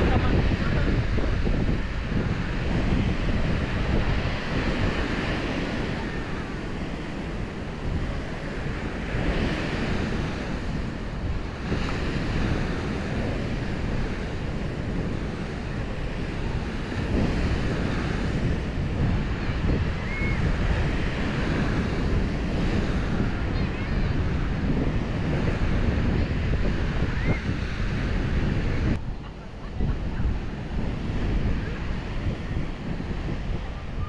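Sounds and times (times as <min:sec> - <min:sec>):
small waves breaking on beach: 0:00.0 - 0:34.0
wind buffeting microphone: 0:00.0 - 0:34.0.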